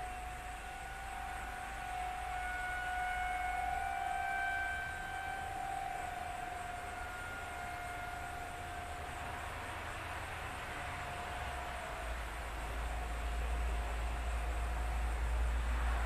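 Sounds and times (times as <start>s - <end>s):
tornado siren wailing: 0.0s - 16.0s.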